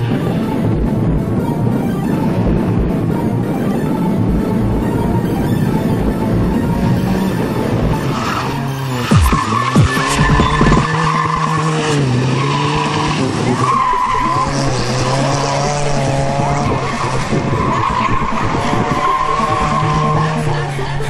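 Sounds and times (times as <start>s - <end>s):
rally car engine revving: 0.0s - 21.0s
tyres skidding: 0.0s - 21.0s.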